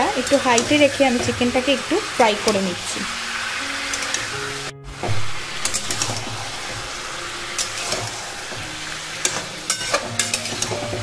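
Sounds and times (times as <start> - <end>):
chicken sizzling in hot oil: 0.0 - 11.0
metal spatula scraping a pan: 0.1 - 11.0.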